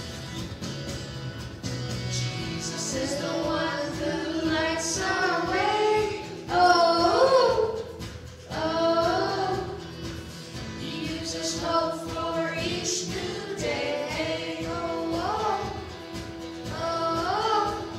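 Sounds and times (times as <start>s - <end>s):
woman and children singing: 2.4s - 9.8s, 10.7s - 17.9s.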